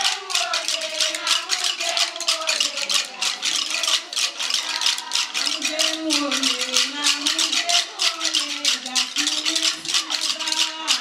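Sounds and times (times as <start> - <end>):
hands clapping: 0.0 - 11.0
women singing long notes: 0.0 - 11.0
wooden sticks knocking: 0.0 - 11.0.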